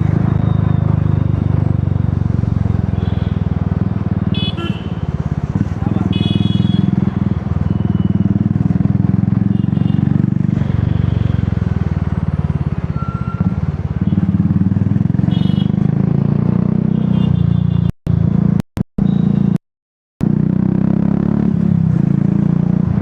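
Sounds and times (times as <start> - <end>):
motorcycle engine running: 0.0 - 19.2.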